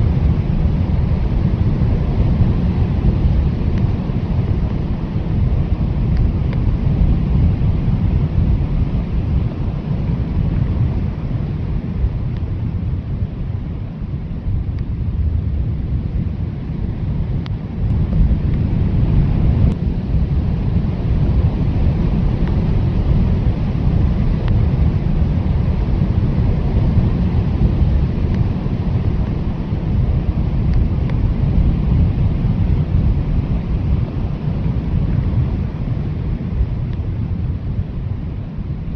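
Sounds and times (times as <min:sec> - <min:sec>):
strong blizzard wind: 0:00.0 - 0:38.9.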